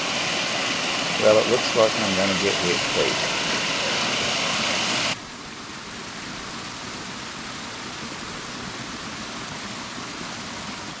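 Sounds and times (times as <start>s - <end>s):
small waterfall: 0.0s - 11.0s
stream rushing over boulders: 0.0s - 11.0s.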